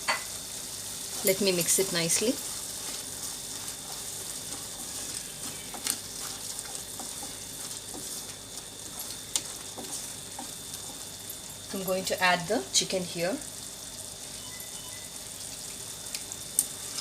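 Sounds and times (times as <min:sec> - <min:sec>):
masala sizzling in a pan: 0:00.0 - 0:17.0.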